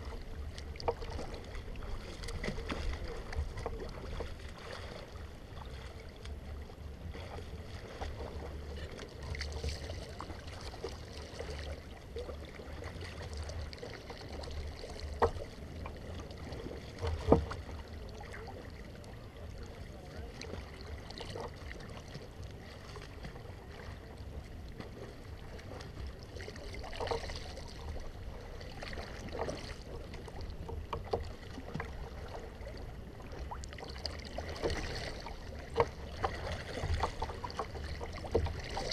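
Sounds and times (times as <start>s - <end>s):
paddle splashing in water: 0.0s - 38.9s.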